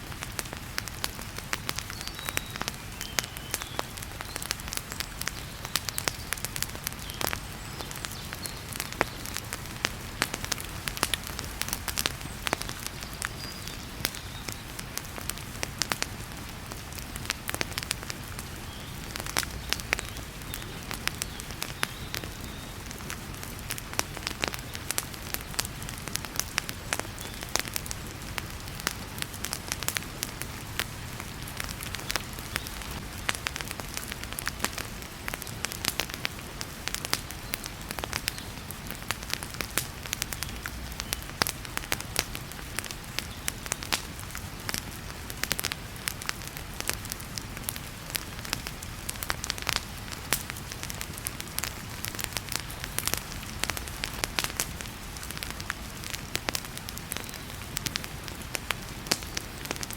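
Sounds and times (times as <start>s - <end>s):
heavy rain hiss: 0.0s - 59.9s
wood fire crackling and popping: 0.0s - 59.9s.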